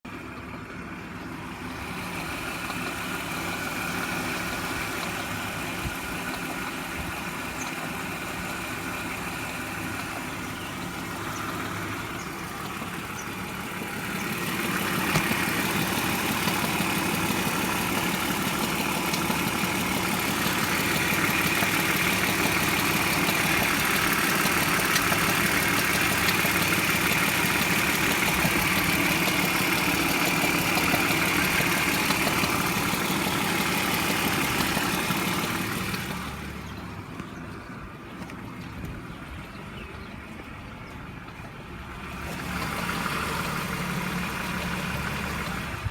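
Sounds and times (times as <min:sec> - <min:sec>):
car engine idling with rattling: 0:00.0 - 0:45.9.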